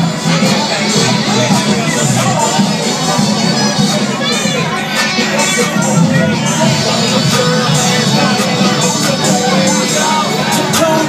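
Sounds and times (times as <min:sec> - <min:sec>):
hip-hop song: 0:00.0 - 0:11.0
melodic sung vocals: 0:00.0 - 0:11.0.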